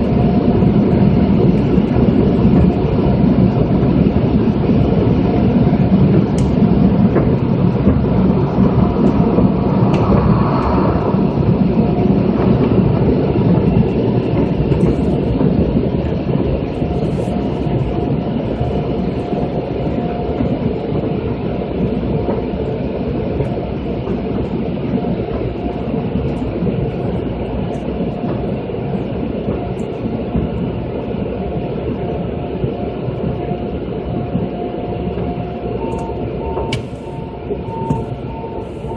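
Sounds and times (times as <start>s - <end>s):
faint steady whine: 0.0s - 38.9s.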